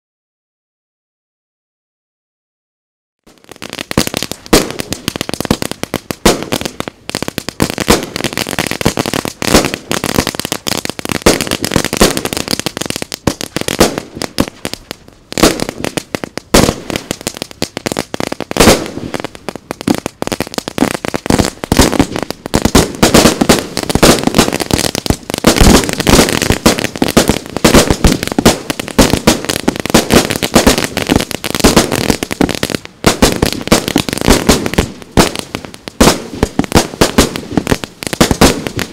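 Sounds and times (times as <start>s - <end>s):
fireworks bangs: 3.3s - 38.9s.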